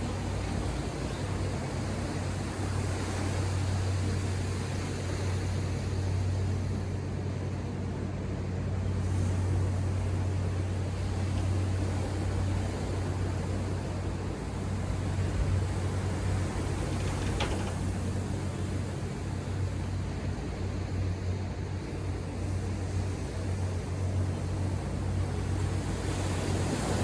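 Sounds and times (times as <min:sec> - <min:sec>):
ocean surf: 0:00.0 - 0:27.0.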